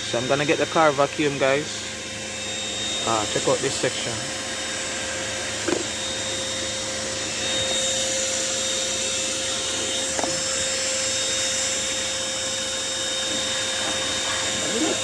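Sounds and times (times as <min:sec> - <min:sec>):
handheld vacuum cleaner running: 0:00.0 - 0:15.0.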